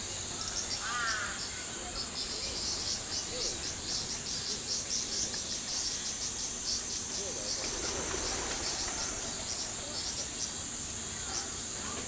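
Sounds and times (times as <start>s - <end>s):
faint distant voices: 0.0s - 12.0s
insect chirps: 0.0s - 12.0s
insects buzzing: 0.0s - 12.0s.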